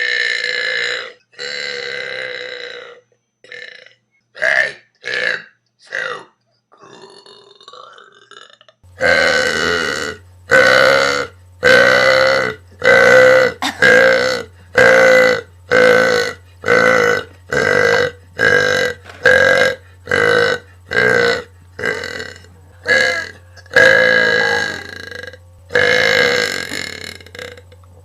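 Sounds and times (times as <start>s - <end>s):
loud pitched burps: 0.0s - 5.5s, 6.7s - 27.9s
low steady hum: 0.0s - 28.0s.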